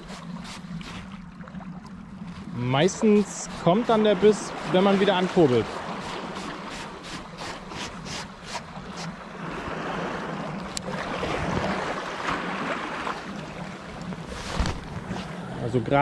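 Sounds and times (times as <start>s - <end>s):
water lapping and splashing: 0.0s - 16.0s.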